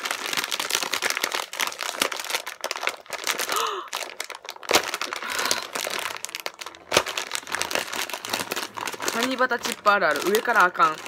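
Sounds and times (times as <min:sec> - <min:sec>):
chip bag crinkling: 0:00.0 - 0:11.0.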